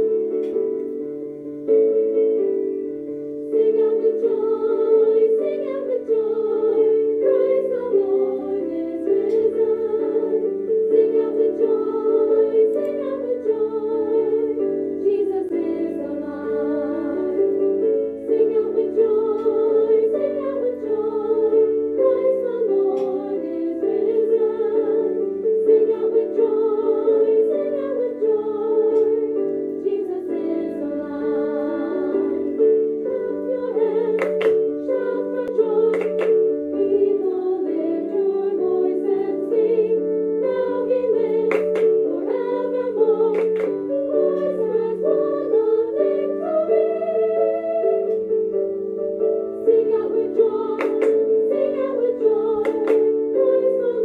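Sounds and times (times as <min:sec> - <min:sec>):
keyboard accompaniment: 0:00.0 - 0:54.0.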